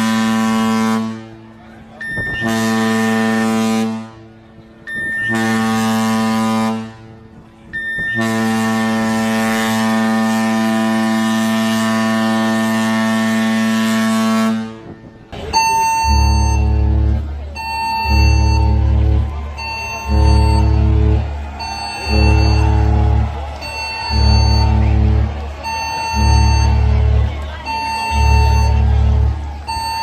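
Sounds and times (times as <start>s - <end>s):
deep ship horn blasts: 0.0s - 30.0s.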